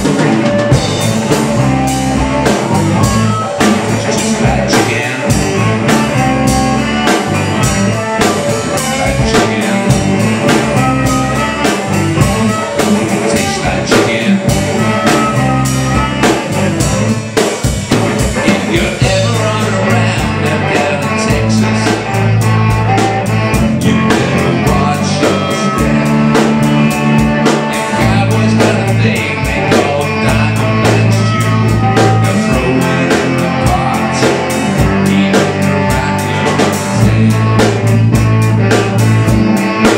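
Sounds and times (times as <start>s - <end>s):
live blues band playing: 0.0s - 39.9s.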